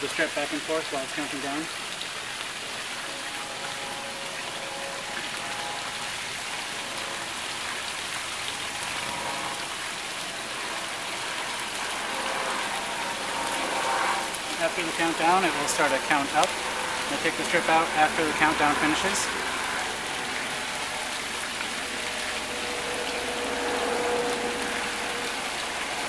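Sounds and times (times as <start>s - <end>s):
steady rushing noise: 0.7s - 26.0s.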